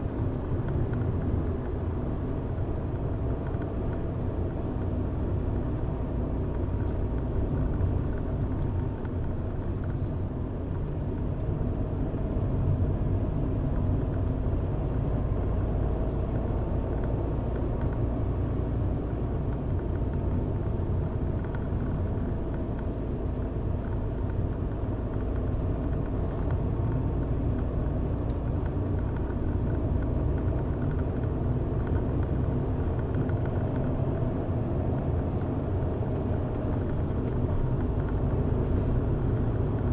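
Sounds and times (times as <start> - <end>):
car driving: 0.0 - 39.9.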